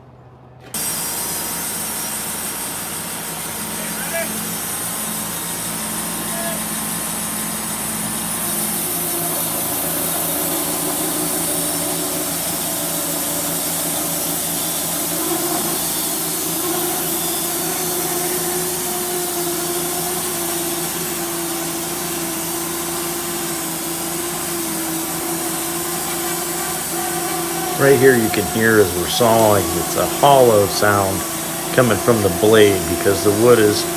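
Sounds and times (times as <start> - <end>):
sawmill blade cutting wood: 0.7 - 33.9.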